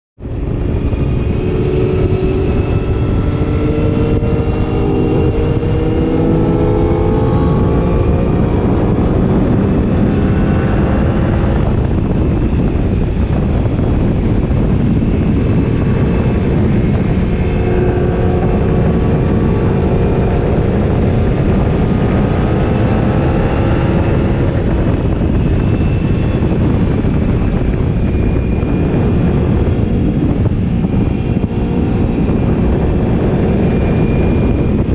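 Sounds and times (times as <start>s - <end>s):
motorcycle engine accelerating: 0.2s - 34.9s
wind noise on microphone: 0.2s - 34.9s.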